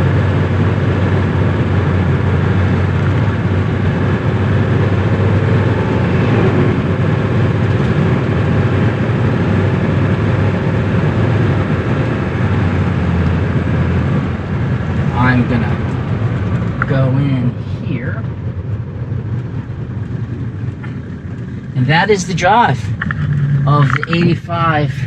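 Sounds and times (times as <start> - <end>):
diesel engine low drone: 0.0 - 25.0
road noise: 0.0 - 25.0.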